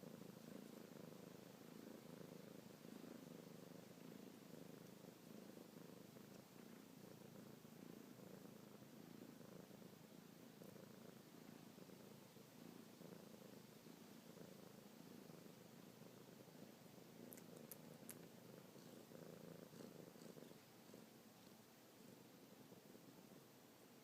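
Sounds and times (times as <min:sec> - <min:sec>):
kitten purring: 0:00.0 - 0:24.0.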